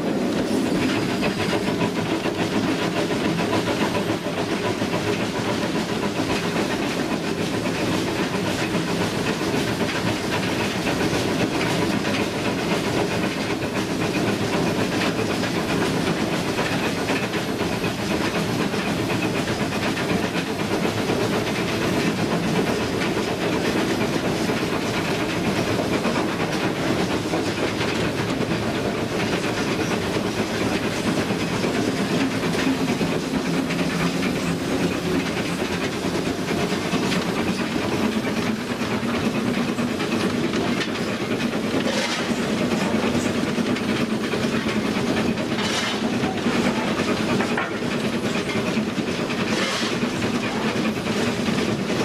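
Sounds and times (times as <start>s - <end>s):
steam locomotive working: 0.0s - 52.0s
wheels running on rails: 0.0s - 52.0s.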